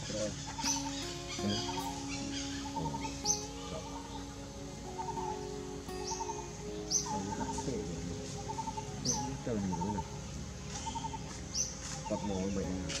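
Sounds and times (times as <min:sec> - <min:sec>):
high falling bird chirp: 0:00.0 - 0:13.0
lower wavering bird call: 0:00.0 - 0:13.0.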